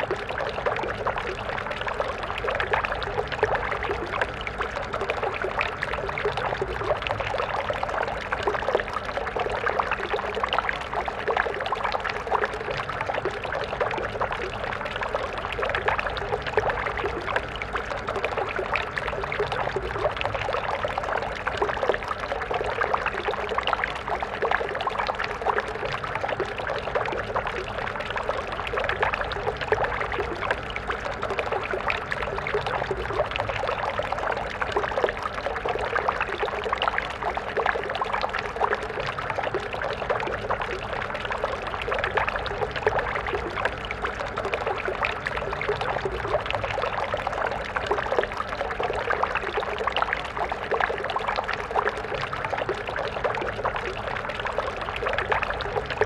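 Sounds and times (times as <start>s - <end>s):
stream of water babbling: 0.0s - 56.0s.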